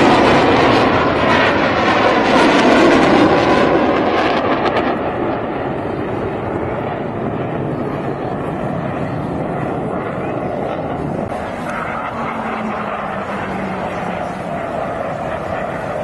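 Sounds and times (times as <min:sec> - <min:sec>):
distant jets roaring: 0:00.0 - 0:16.0.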